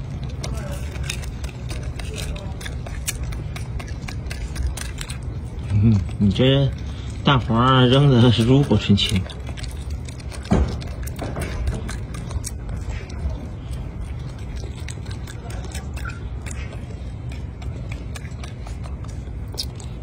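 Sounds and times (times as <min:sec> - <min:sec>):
eggshell cracking and chewing: 0:00.0 - 0:20.0
low steady rumble: 0:00.0 - 0:20.0.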